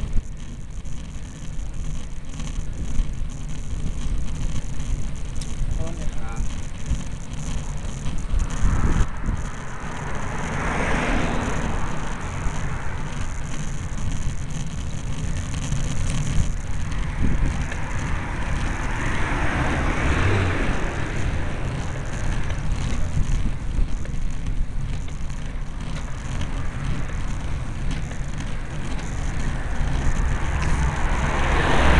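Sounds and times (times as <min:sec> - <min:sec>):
road rumble: 0:00.0 - 0:31.9
wind buffeting microphone: 0:01.8 - 0:31.9.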